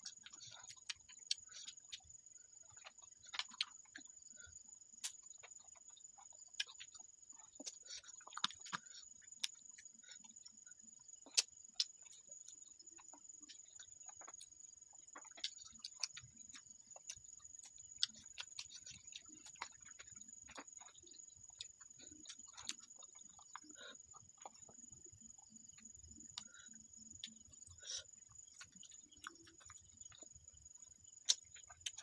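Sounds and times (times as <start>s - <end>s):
mouth smacks and chewing: 0.0s - 32.0s.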